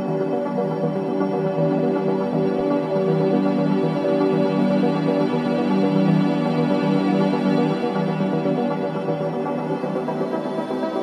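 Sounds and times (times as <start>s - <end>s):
calm ambient music: 0.0s - 11.0s.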